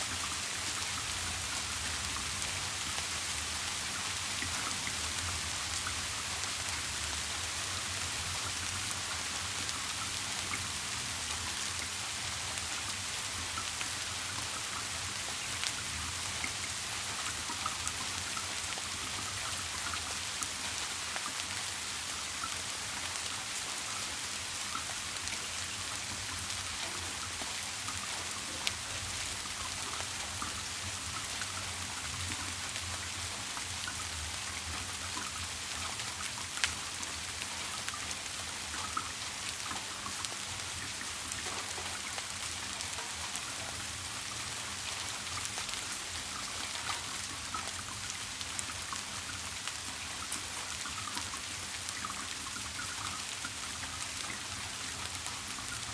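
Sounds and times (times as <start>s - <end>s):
steady rain falling: 0.0s - 55.9s
water dripping: 0.1s - 55.9s.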